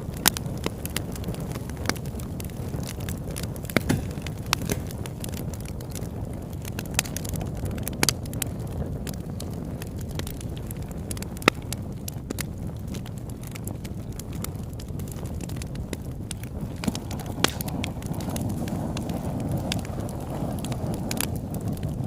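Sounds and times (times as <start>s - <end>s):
campfire pops and snaps: 0.0s - 22.0s
low rumble of burning fire: 0.0s - 22.0s.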